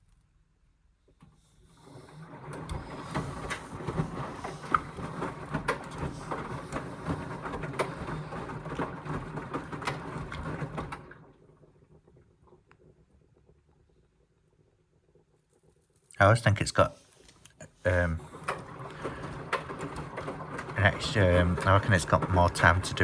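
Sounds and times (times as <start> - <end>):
washing machine motor hum: 1.2 - 15.2, 17.6 - 23.0.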